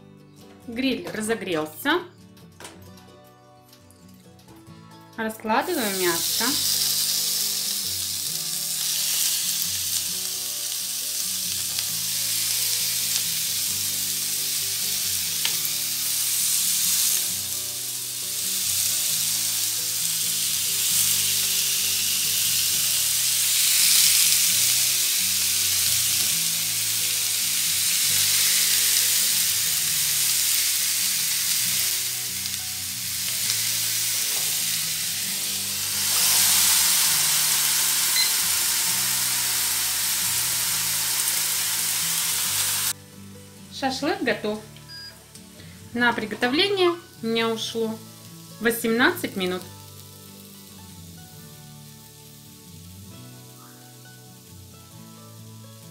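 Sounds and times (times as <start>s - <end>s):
chicken sizzling on grill: 5.6s - 43.0s, 46.5s - 55.9s.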